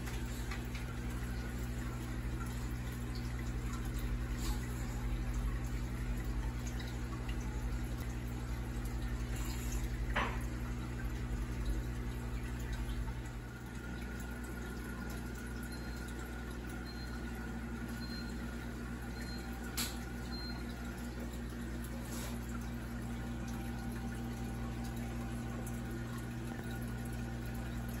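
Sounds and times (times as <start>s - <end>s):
aquarium filters bubbling: 0.0s - 28.0s.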